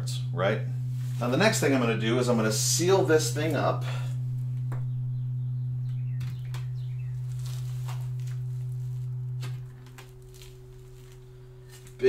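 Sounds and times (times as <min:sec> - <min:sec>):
low test tone: 0:00.0 - 0:12.0.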